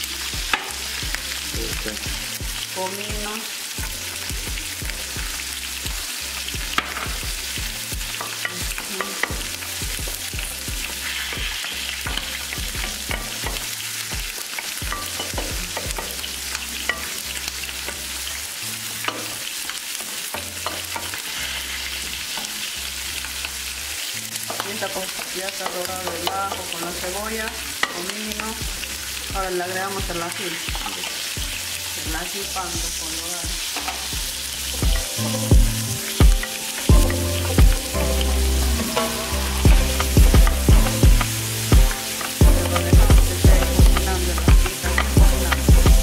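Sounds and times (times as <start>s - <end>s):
onion sizzling in a pot: 0.0s - 46.0s.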